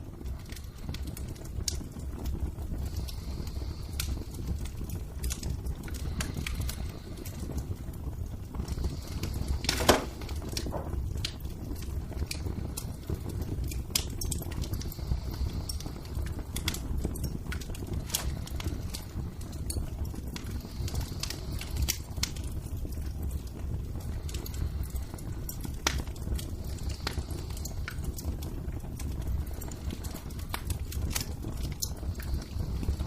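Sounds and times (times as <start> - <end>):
fire crackling and popping: 0.0 - 33.0.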